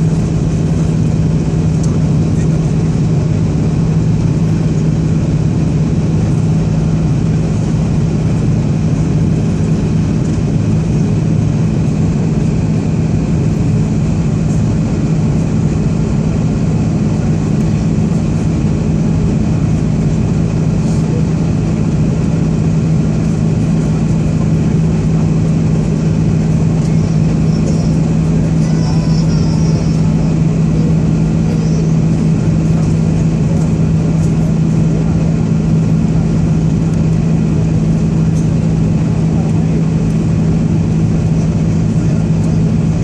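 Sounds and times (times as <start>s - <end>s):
airliner cabin engine drone: 0.0s - 43.0s.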